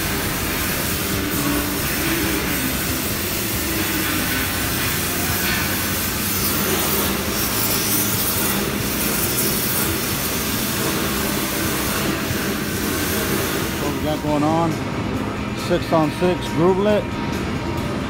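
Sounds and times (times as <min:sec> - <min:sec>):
shop machinery noise: 0:00.0 - 0:18.0.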